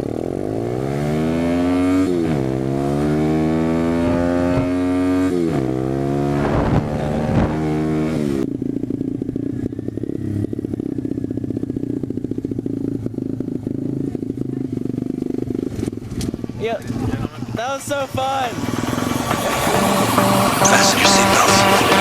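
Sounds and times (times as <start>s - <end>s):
motorbike engine accelerating: 0.0s - 22.0s.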